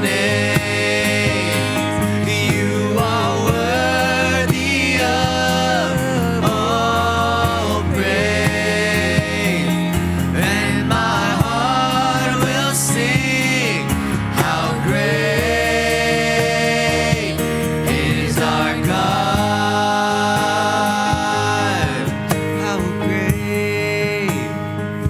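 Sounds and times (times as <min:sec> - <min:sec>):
singing with long held notes: 0:00.0 - 0:24.7
band with steady bass: 0:00.0 - 0:25.0.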